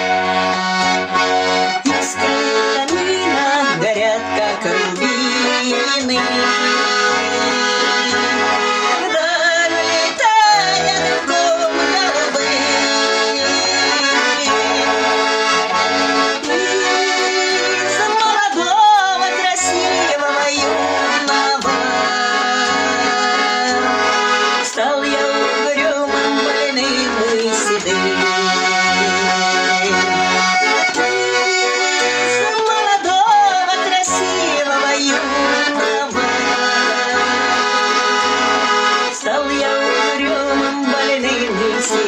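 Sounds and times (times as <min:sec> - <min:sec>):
button accordion melody: 0:00.0 - 0:42.0.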